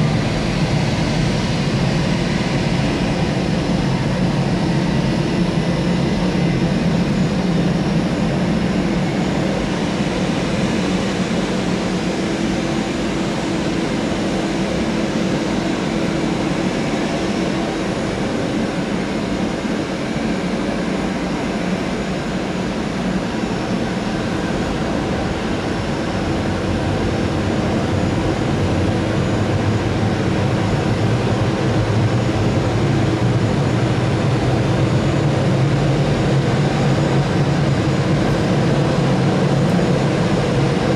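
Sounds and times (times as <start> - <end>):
jet airliner hiss and whine: 0.0 - 40.9.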